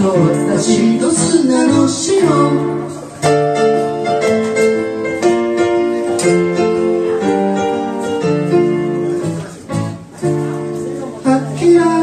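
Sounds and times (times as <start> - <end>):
keyboard playing held chords: 0.0 - 12.0.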